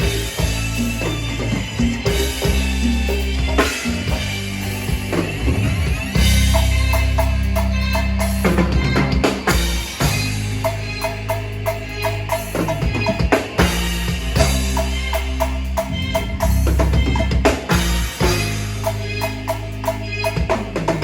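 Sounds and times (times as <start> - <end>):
bass notes: 0.0 - 21.0
drum kit playing: 0.0 - 21.0.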